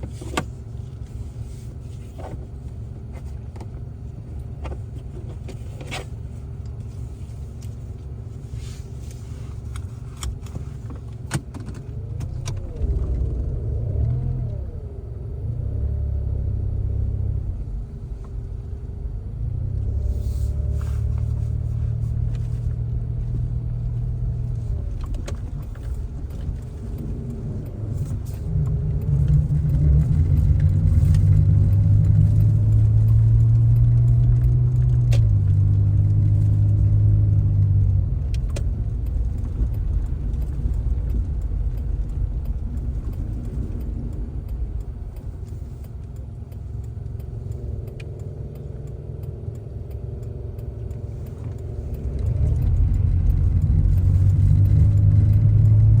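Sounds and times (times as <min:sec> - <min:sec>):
car engine: 0:00.0 - 0:56.0
road noise: 0:00.0 - 0:56.0.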